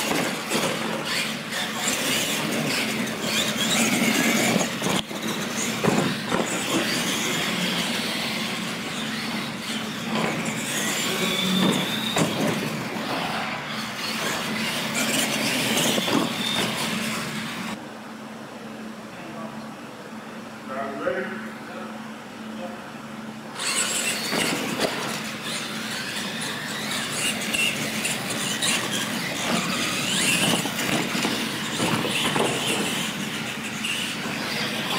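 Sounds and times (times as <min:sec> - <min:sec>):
motors and gears whining: 0:00.0 - 0:17.8, 0:23.5 - 0:34.9
tyre noise on concrete: 0:00.0 - 0:17.8, 0:23.6 - 0:34.9.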